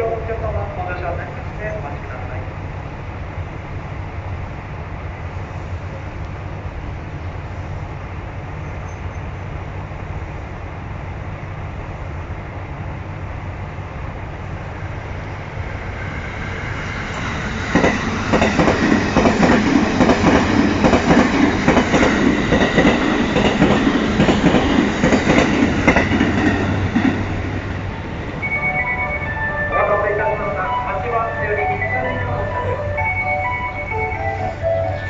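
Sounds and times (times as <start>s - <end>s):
train low rumble: 0.0s - 35.0s.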